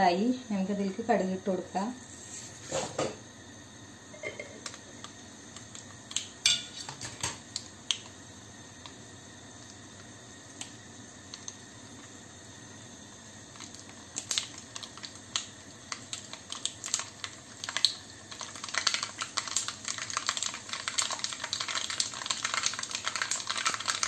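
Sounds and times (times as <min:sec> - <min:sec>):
seeds popping in hot oil: 0:04.0 - 0:24.0.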